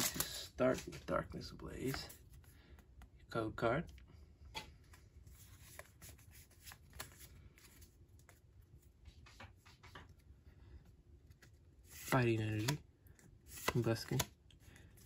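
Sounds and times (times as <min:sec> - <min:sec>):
trading cards rustling: 0:00.0 - 0:03.0, 0:04.8 - 0:10.3, 0:11.2 - 0:15.0.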